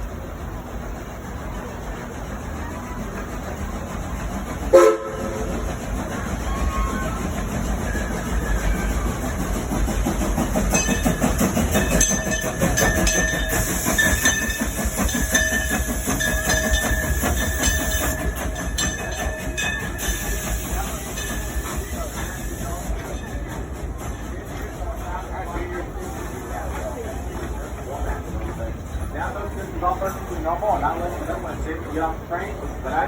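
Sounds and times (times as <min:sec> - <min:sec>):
train rumbling: 0:00.0 - 0:33.0
wheels clacking over track: 0:01.4 - 0:33.0.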